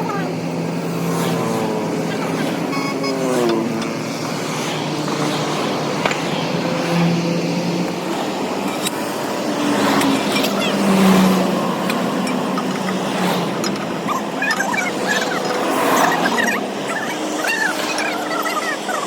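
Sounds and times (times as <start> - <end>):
street noise: 0.0 - 19.0
vehicle engine running: 0.0 - 19.0.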